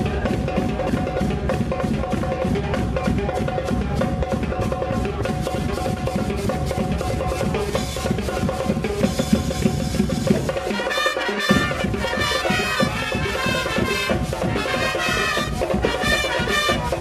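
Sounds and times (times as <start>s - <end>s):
marching band brass: 0.0s - 17.0s
marching band drums: 0.0s - 17.0s.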